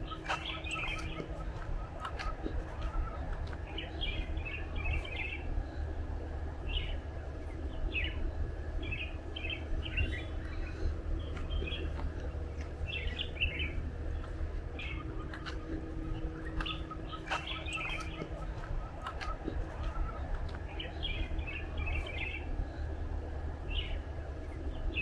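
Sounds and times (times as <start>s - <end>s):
birds chirping: 0.0s - 25.0s
steady low rumble: 0.0s - 25.0s.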